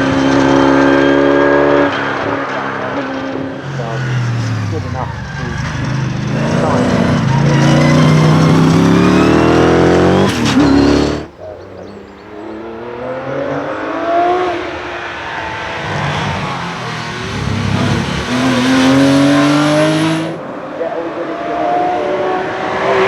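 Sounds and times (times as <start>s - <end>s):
faint car accelerating uphill: 0.0s - 23.0s
race car engines accelerating: 0.0s - 23.0s.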